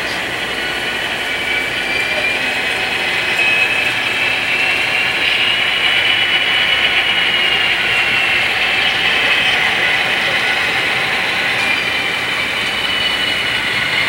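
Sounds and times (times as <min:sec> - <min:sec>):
model train high whine: 0:00.0 - 0:14.0.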